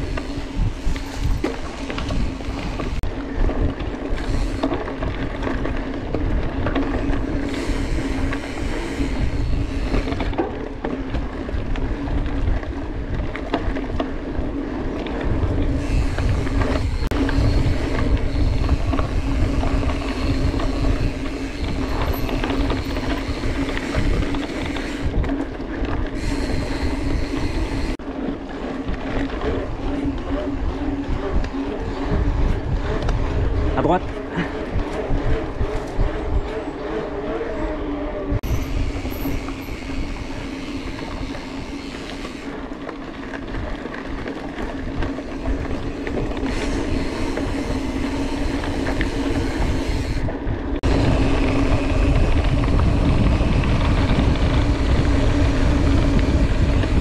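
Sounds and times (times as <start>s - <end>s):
bike tyre and drivetrain rumble: 0.0s - 57.0s
wind buffeting microphone: 0.0s - 57.0s.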